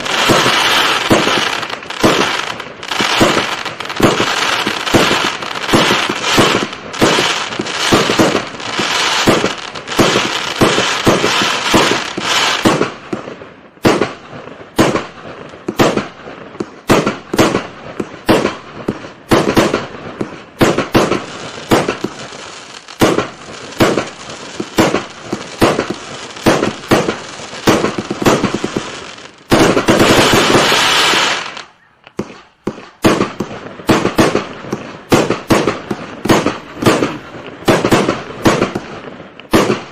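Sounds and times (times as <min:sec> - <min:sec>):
fireworks crackling: 0:00.0 - 0:39.9
fireworks shots and bursts: 0:00.0 - 0:39.9.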